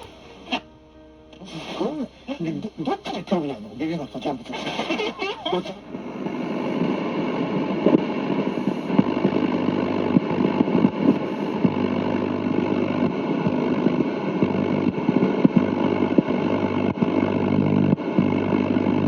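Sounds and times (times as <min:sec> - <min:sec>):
low hum: 0:00.0 - 0:19.0
static crackles: 0:00.0 - 0:19.0
radio static: 0:01.4 - 0:19.0.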